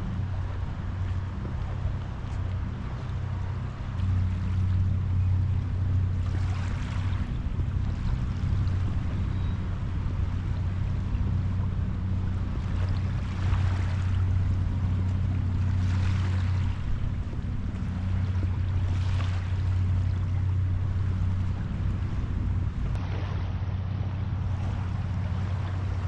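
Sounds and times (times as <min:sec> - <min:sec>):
boat engine droning: 0:00.0 - 0:26.0
small waves washing onto beach: 0:00.0 - 0:26.0.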